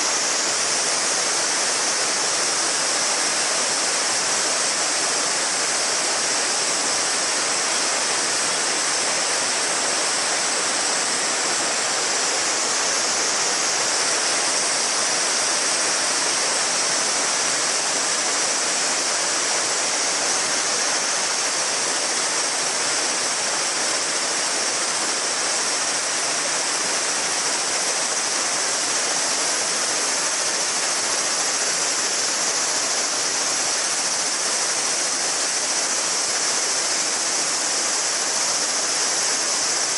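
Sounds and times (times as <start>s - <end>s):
cicadas buzzing: 0.0s - 39.9s
river babbling over stones: 0.0s - 39.9s.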